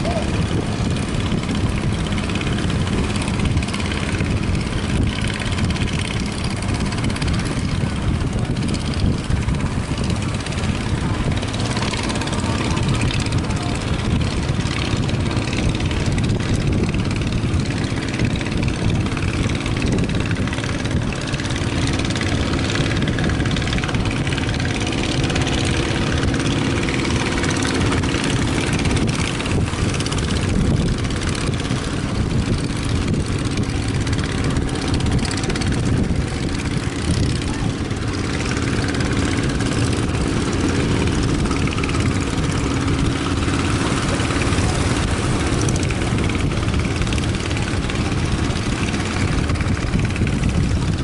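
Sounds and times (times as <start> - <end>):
boat engine running: 0.0 - 51.0
wind on microphone: 0.0 - 51.0.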